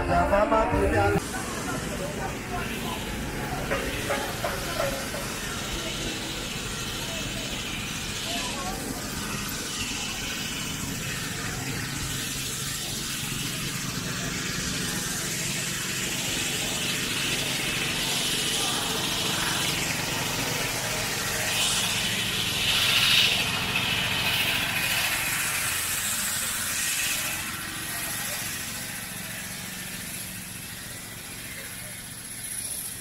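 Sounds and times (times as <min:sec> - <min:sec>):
scattered voices: 0:00.0 - 0:33.0.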